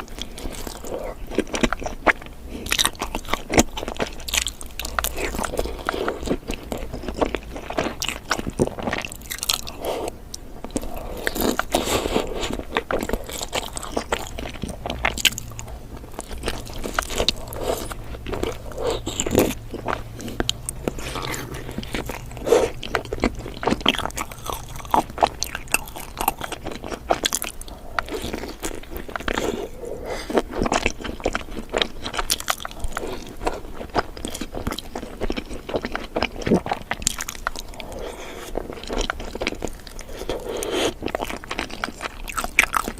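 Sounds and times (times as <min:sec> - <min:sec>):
person chewing donuts: 0:00.0 - 0:42.9.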